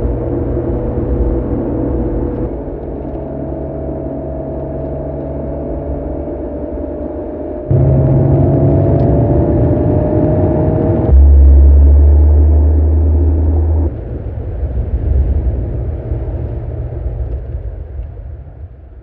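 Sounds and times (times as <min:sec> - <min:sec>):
car engine and exhaust: 0:00.0 - 0:19.0.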